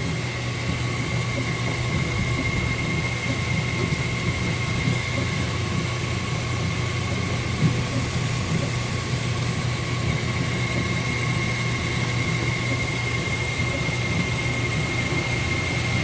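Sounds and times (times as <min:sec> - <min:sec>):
high whine: 0:00.0 - 0:16.0
washing machine motor hum: 0:00.0 - 0:16.0.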